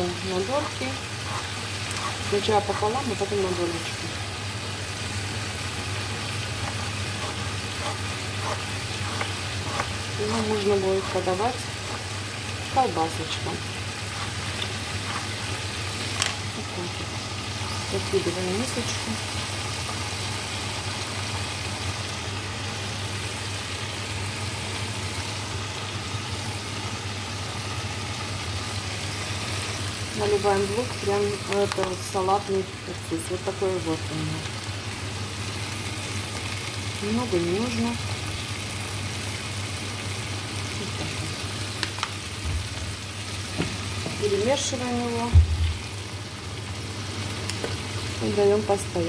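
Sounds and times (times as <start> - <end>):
sausages sizzling in a pan: 0.0 - 49.0.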